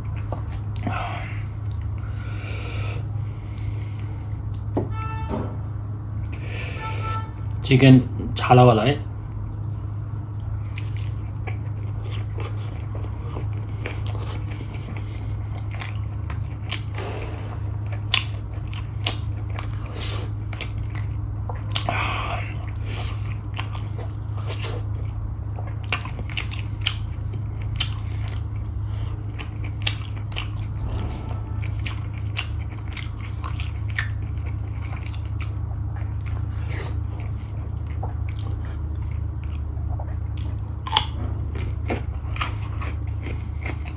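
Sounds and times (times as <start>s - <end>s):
person chewing and crunching food: 0.0s - 4.7s, 9.3s - 43.9s
steady low hum: 0.0s - 43.9s.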